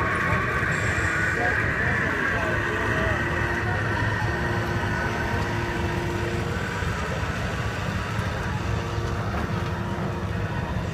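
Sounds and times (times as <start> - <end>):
higher steady tones: 0.0 - 10.4
machinery humming: 0.0 - 10.9.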